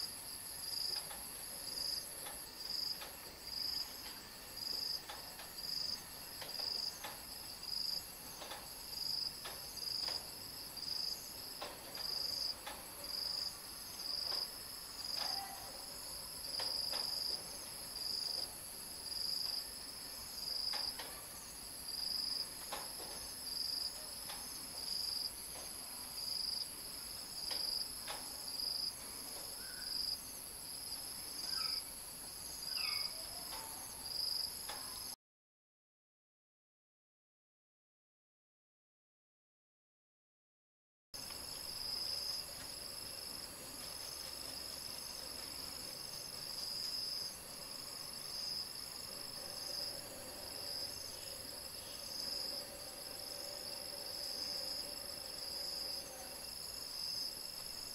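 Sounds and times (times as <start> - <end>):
insects trilling: 0.0 - 35.2, 41.2 - 57.9
lower pulsing insect chirp: 0.0 - 35.2, 41.2 - 57.9.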